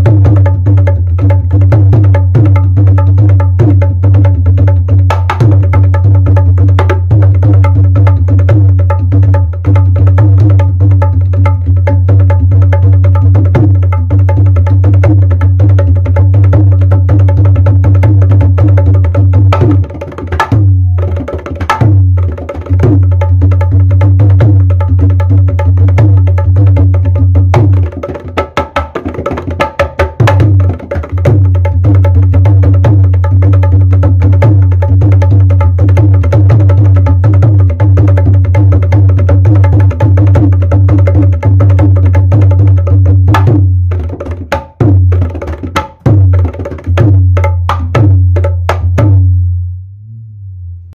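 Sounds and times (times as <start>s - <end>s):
hand drum played in fast rhythm: 0.0s - 49.3s.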